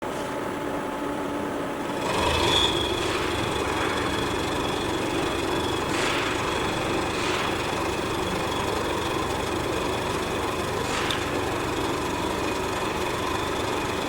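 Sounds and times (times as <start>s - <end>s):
machine hum with high whine: 0.0s - 14.0s.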